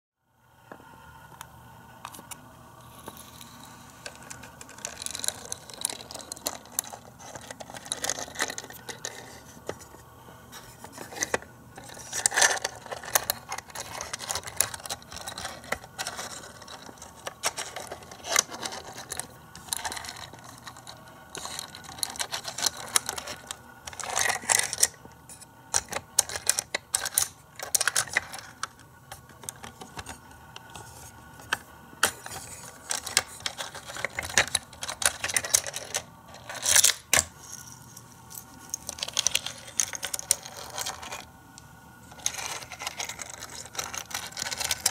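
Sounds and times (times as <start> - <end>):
small plastic parts clicking: 3.4 - 9.8, 10.7 - 37.6, 38.3 - 44.9.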